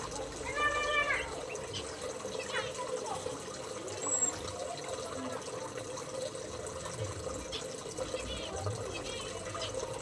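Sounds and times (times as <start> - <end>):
water trickling: 0.0 - 10.0.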